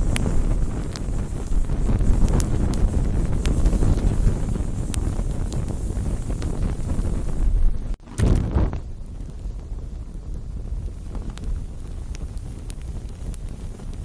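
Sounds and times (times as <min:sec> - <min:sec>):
crackles and pops of burning wood: 0:00.0 - 0:14.0
low fire rumble: 0:00.0 - 0:14.0.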